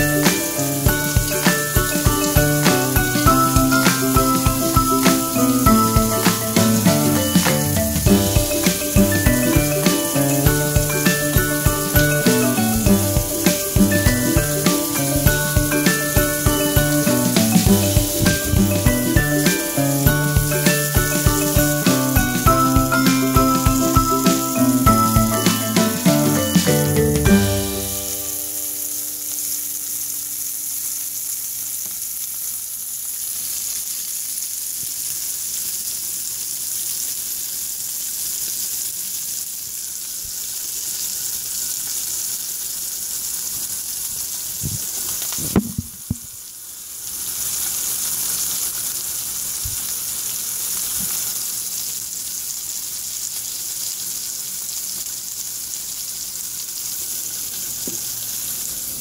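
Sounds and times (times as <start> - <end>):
bacon fat sizzling: 0.0 - 59.0.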